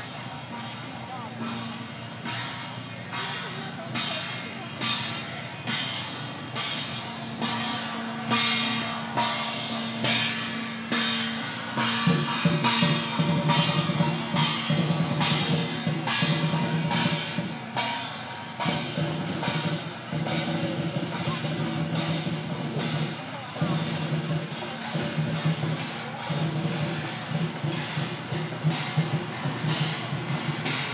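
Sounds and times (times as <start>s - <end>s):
procession drums gongs and cymbals: 0.0s - 30.9s.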